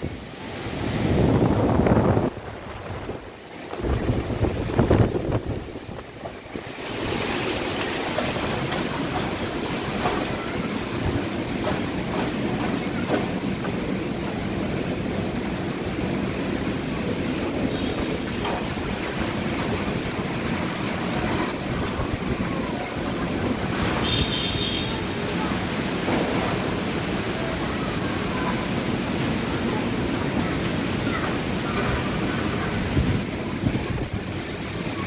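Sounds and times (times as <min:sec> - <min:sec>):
gusting wind: 0:00.0 - 0:35.0
heavy rain pouring: 0:00.0 - 0:35.0.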